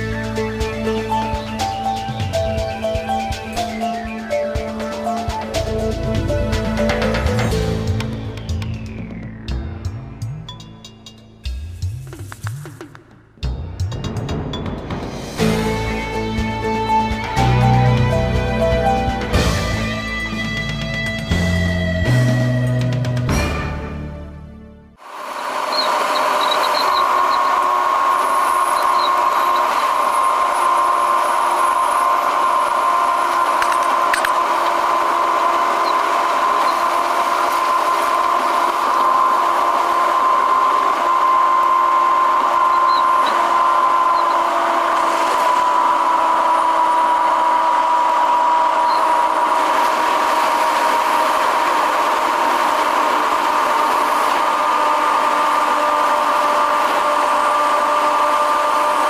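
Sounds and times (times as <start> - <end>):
train cabin rush and whine: 0.0 - 24.0, 25.0 - 59.0
oncoming train passing: 0.0 - 24.2, 25.0 - 59.0.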